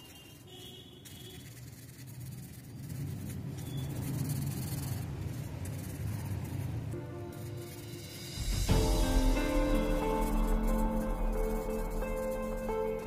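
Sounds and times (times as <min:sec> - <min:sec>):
brush rubbing on paper: 0:00.0 - 0:13.0.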